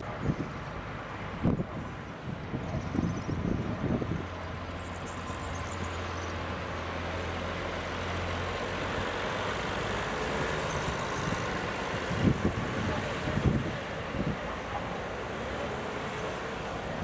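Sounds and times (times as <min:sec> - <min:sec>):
traffic hiss: 0:00.0 - 0:17.0
wind: 0:00.0 - 0:17.0.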